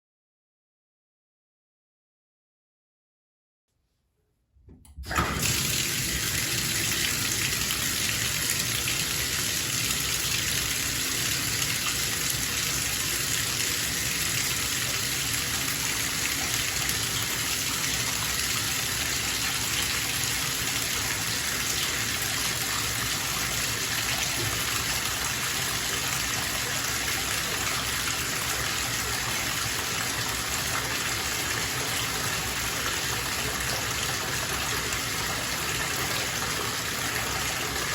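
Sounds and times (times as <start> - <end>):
water gushing into bathtub: 5.0 - 37.9.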